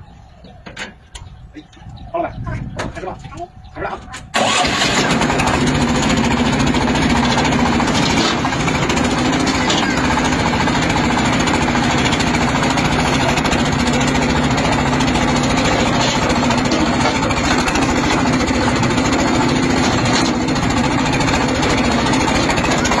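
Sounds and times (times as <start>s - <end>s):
loader engine knocking: 4.3s - 23.0s.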